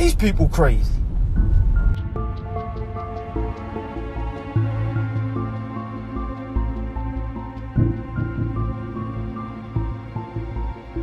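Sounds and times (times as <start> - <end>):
slow background music: 1.0 - 11.0.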